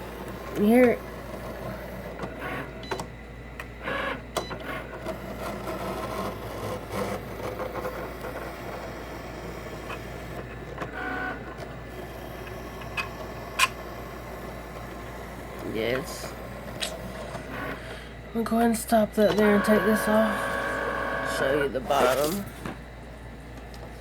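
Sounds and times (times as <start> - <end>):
cutting machine motors whirring: 0.0 - 22.7.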